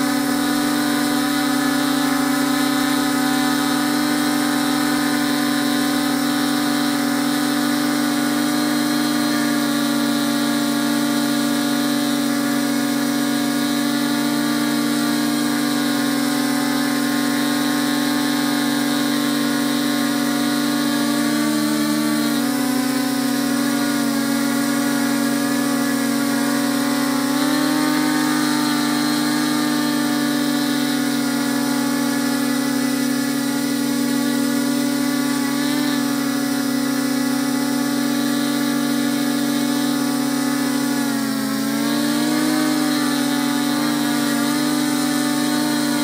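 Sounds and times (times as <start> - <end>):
drone propellers humming: 0.0 - 46.0.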